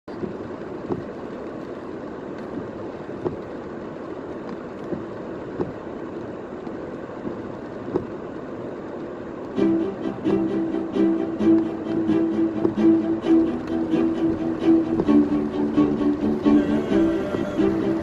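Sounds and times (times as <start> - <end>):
tyres and rain rushing: 0.1 - 18.0.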